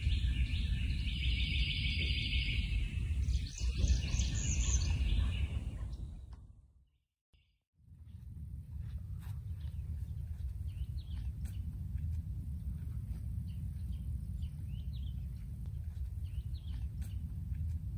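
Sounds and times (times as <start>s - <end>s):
small birds chirping: 0.0s - 6.3s, 7.4s - 17.9s
steady low rumble: 0.0s - 6.7s, 7.8s - 17.9s.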